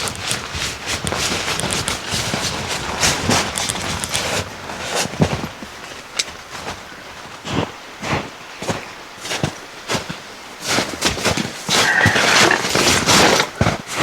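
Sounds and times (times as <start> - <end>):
tent fabric rustling: 0.0 - 14.0.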